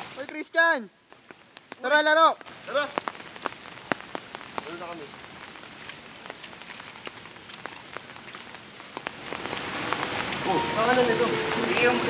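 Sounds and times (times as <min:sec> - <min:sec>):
rain drops ticking: 0:00.0 - 0:12.0
steady rain hissing: 0:00.0 - 0:12.0.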